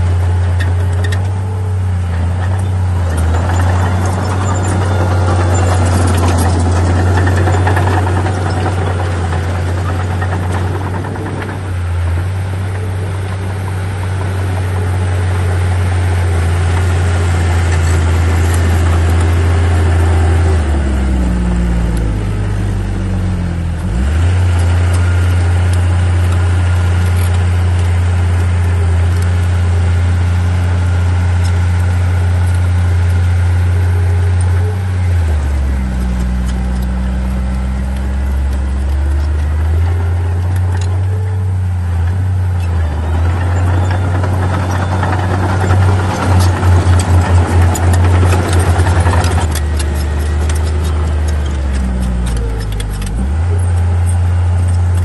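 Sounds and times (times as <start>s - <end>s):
bulldozer diesel engine droning: 0.0s - 55.0s
noisy clatter: 0.0s - 55.0s.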